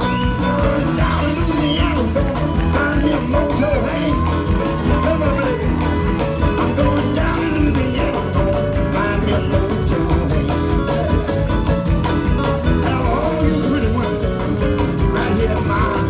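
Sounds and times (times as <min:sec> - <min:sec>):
blues band playing: 0:00.0 - 0:16.0
person singing: 0:00.0 - 0:16.0.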